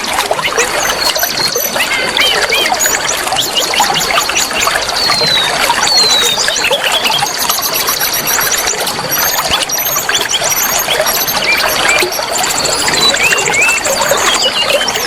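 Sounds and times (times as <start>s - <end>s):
birds singing chirps and trills: 0.0s - 15.0s
flowing water: 0.0s - 15.0s.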